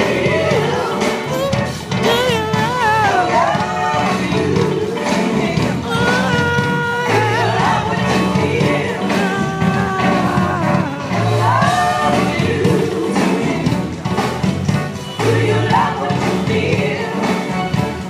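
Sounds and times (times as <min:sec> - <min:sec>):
backing singers in harmony: 0:00.0 - 0:14.3, 0:15.0 - 0:18.0
bass: 0:00.0 - 0:18.0
drums: 0:00.0 - 0:18.0.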